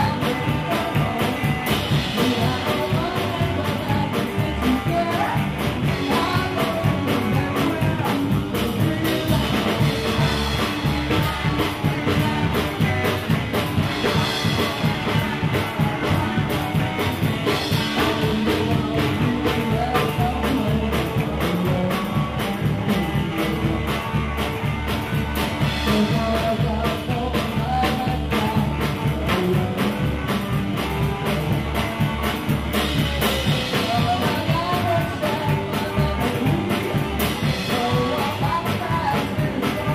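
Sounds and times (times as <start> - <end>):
drum kit beat: 0.0 - 39.9
electric guitar: 0.0 - 39.9
person singing: 0.0 - 39.9.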